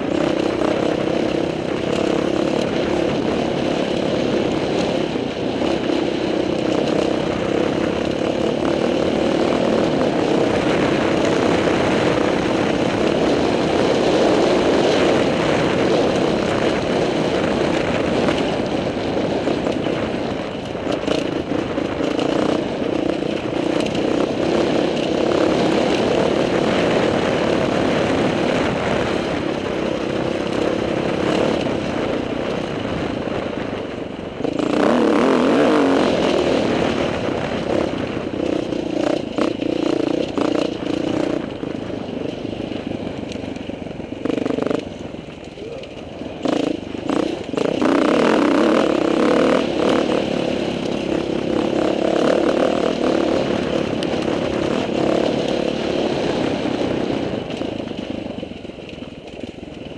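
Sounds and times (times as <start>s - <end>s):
dirt bike engine: 0.0s - 59.9s.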